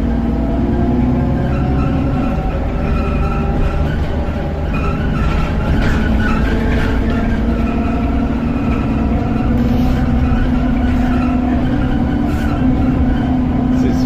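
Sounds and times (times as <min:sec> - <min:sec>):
bus engine drone: 0:00.0 - 0:14.0.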